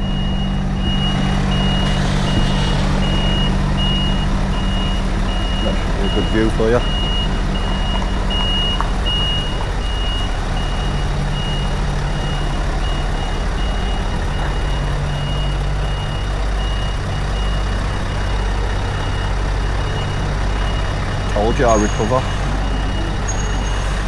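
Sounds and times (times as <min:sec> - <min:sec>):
diesel engine running: 0:00.0 - 0:24.0
truck reversing alarm beeping: 0:00.0 - 0:24.0.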